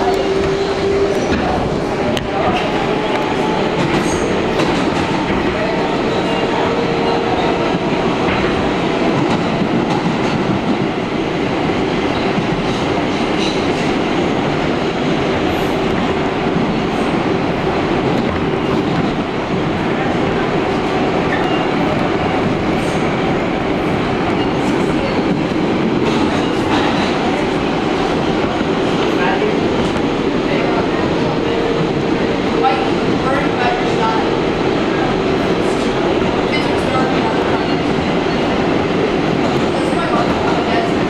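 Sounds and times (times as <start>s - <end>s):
subway train wheels on track: 0.0s - 41.0s.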